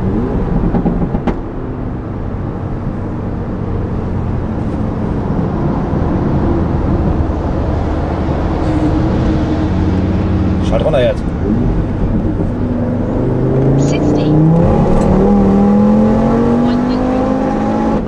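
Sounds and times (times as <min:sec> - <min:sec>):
car engine droning: 0:00.0 - 0:18.0
road and wind noise: 0:00.0 - 0:18.0.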